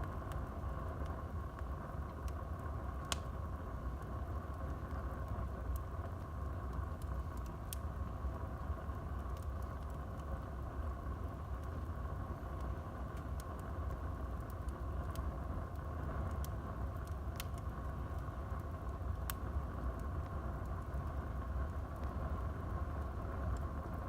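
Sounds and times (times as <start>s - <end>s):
crackles and pops of burning wood: 0.0s - 24.0s
wood fire burning: 0.0s - 24.0s.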